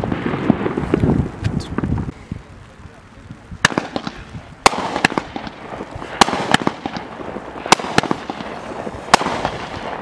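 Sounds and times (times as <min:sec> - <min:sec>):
firework bangs: 0:00.0 - 0:02.1, 0:03.4 - 0:10.0
firework crackling and fizzing: 0:00.0 - 0:10.0.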